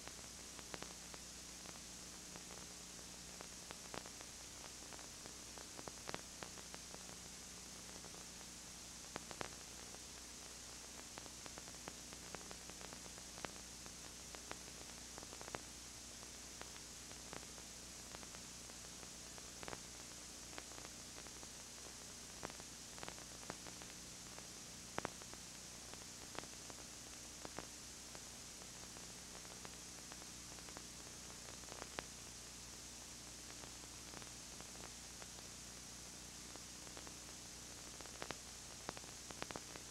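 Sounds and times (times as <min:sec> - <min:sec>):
faint clicks and crackles: 0:00.0 - 0:39.9
low electrical hum: 0:00.0 - 0:39.9
tape hiss: 0:00.0 - 0:39.9.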